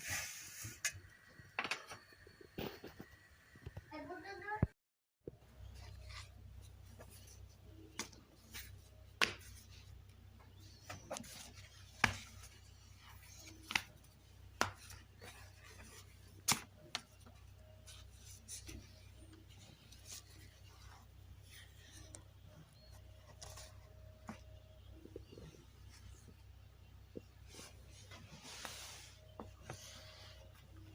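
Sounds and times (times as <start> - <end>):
low steady hum: 5.3 - 30.9.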